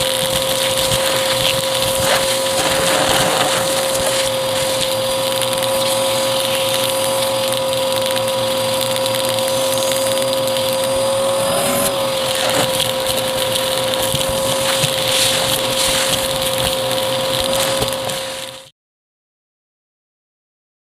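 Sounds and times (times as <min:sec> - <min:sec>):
debris crackling in vacuum: 0:00.0 - 0:18.7
vacuum cleaner running: 0:00.0 - 0:18.7.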